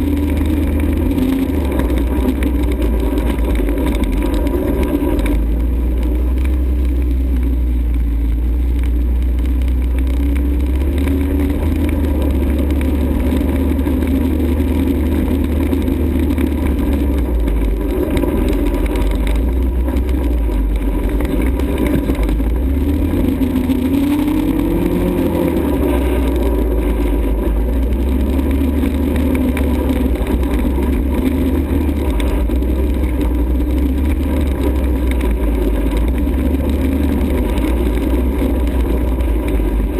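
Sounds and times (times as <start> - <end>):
atv engine revving: 0.0 - 39.9
heavy low rumble: 0.0 - 39.9.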